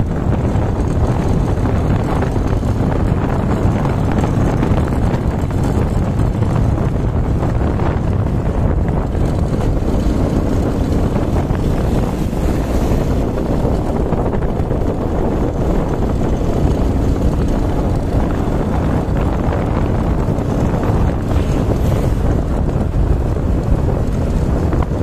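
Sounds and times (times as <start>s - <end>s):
low road rumble: 0.0s - 25.0s
wind rushing on microphone: 0.0s - 25.0s.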